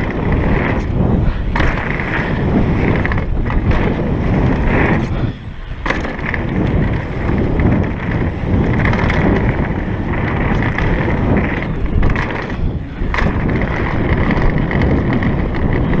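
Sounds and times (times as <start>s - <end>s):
bike impact clatters: 0.0s - 16.0s
mountain bike tyre rumble and rattle: 0.0s - 16.0s
wind on microphone: 0.0s - 16.0s.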